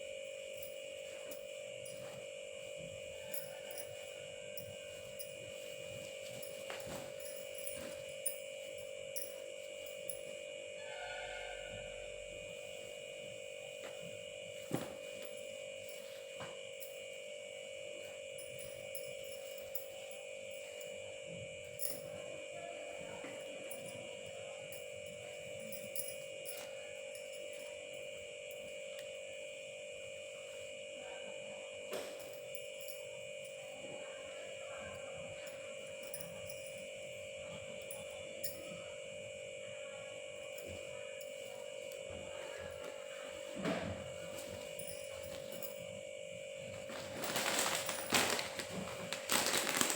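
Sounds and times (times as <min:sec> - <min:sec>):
steady electrical hum: 0:00.0 - 0:49.9.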